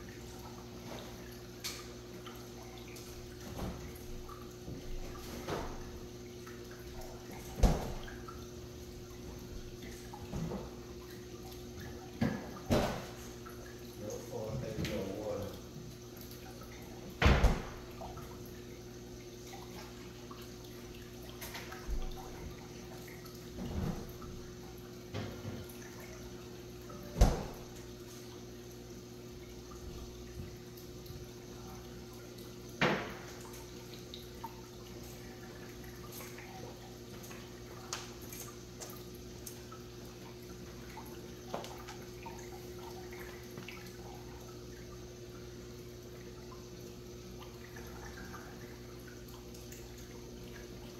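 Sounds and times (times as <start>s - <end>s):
electric pump hum: 0.0s - 50.9s
water trickling and bubbling: 0.0s - 50.9s.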